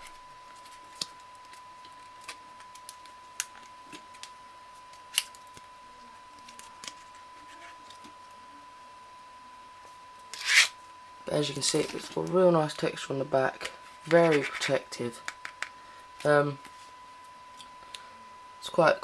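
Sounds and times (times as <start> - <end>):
faint steady tone: 0.0 - 19.0.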